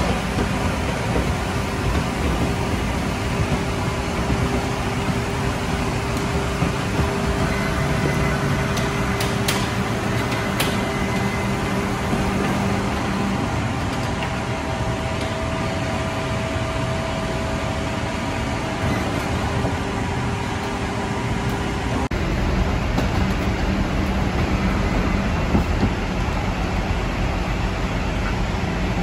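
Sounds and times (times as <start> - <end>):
machinery hum: 0.0 - 29.0.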